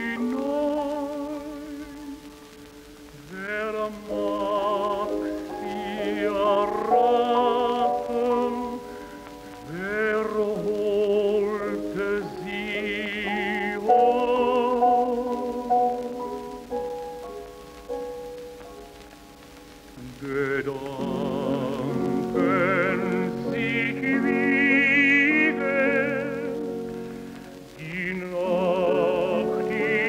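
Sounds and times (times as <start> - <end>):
tenor singing slow song: 0.0 - 30.0.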